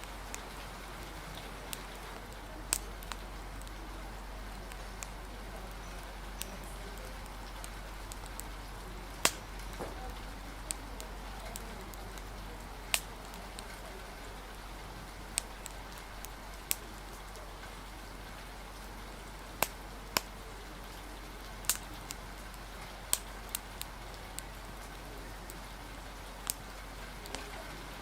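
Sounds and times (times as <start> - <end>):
rain hiss: 0.0 - 28.0
wood fire crackling: 0.0 - 28.0.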